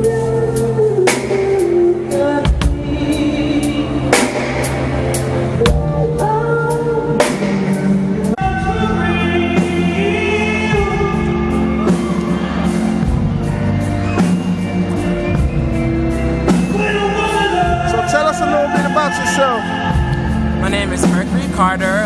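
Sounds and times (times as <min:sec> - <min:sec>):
person singing: 0:00.0 - 0:13.2, 0:16.4 - 0:22.0
music with drum beat: 0:00.0 - 0:22.0.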